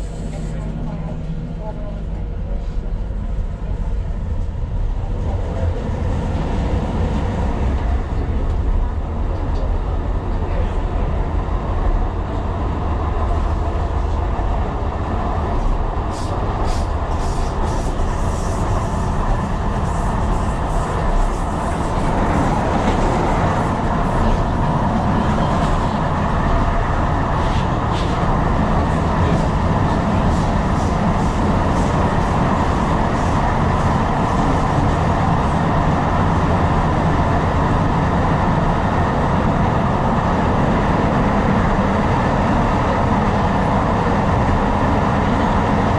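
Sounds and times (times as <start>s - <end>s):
train rumbling along track: 0.0s - 45.9s.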